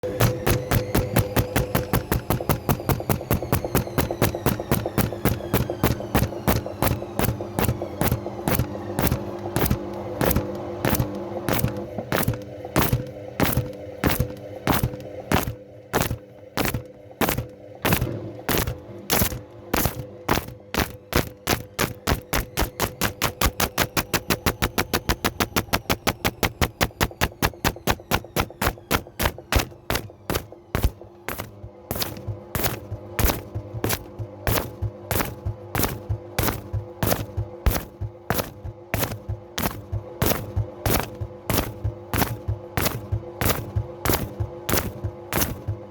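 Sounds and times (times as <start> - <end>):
washing machine drum knocking: 0.0 - 45.9
washing machine motor hum: 0.0 - 45.9.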